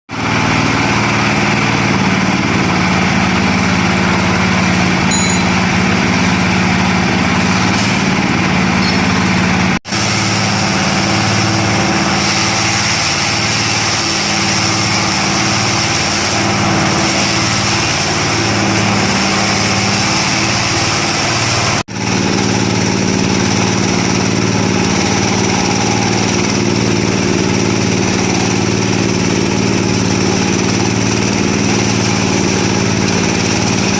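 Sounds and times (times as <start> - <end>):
chopper machine engine running: 0.1 - 33.9.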